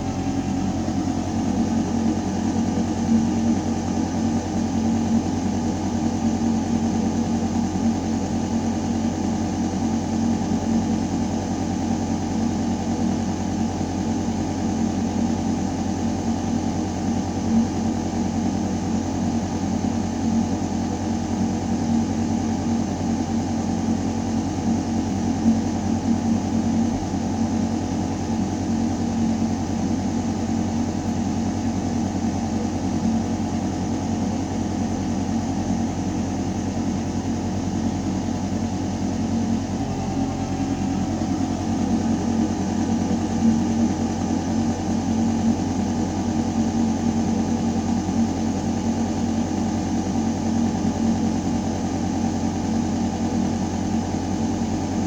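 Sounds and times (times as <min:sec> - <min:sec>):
ventilation system humming: 0:00.0 - 0:13.6, 0:16.0 - 0:55.0.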